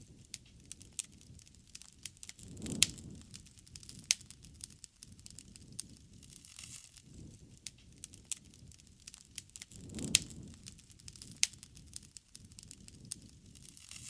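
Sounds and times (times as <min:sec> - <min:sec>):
low rumble of flame: 0:00.0 - 0:14.0
wood fire crackling: 0:00.0 - 0:14.0.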